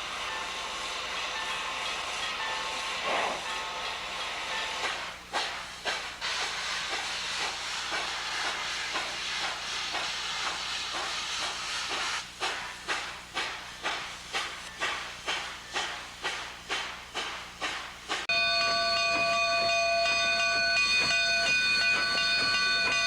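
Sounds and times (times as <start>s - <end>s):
steam hissing: 0.0s - 23.0s
locomotive exhaust chuffs: 4.1s - 23.0s.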